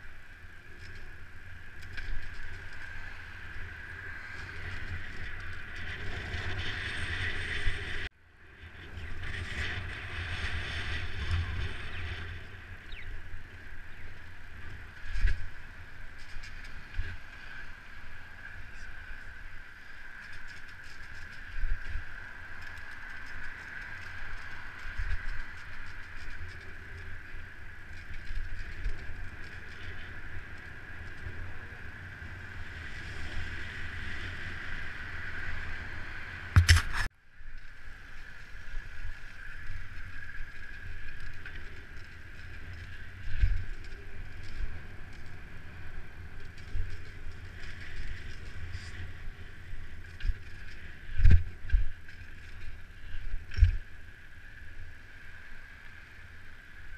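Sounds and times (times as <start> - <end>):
bike tyre hum on pavement: 0.0 - 56.9
wind rumbling on microphone: 0.0 - 56.9.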